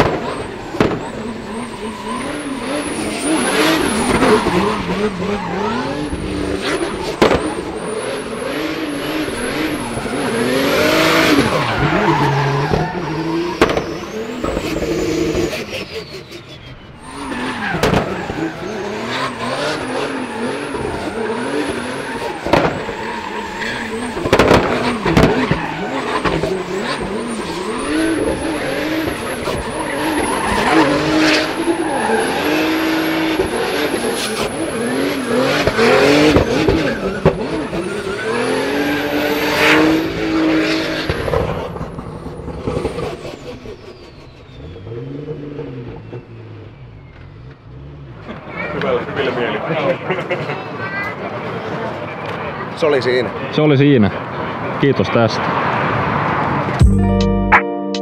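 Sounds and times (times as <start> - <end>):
car engine revving: 0.0 - 53.5
tyres squealing and skidding: 0.0 - 56.8.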